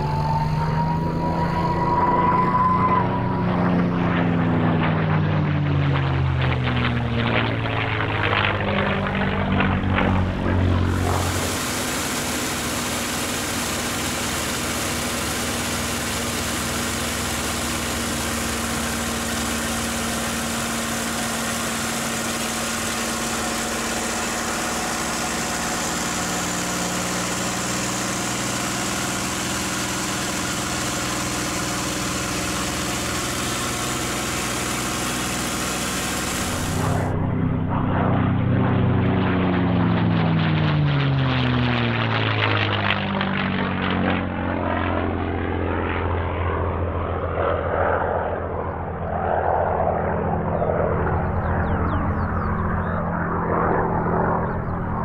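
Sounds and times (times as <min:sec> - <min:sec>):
aircraft engine drone: 0:00.0 - 0:55.0
aircraft passing overhead: 0:00.0 - 0:55.0
wind and airframe noise: 0:00.0 - 0:55.0.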